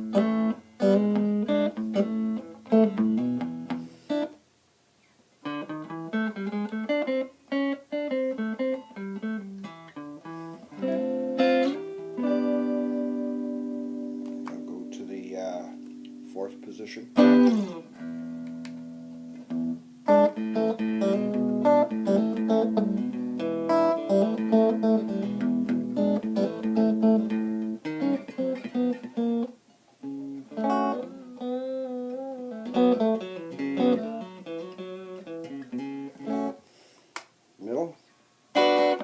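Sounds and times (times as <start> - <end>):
clean electric guitar: 0.0 - 4.4, 5.4 - 36.6, 38.5 - 39.0.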